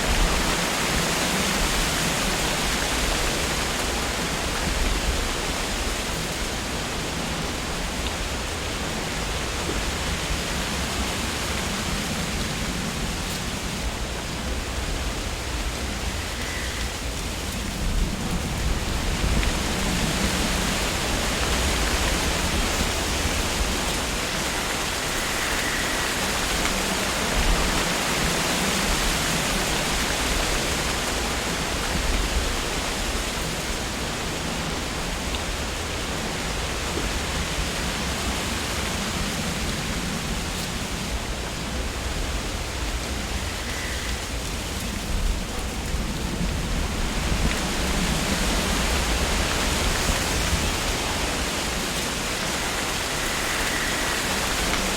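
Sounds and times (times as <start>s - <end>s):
wind rustling through leaves: 0.0s - 54.9s.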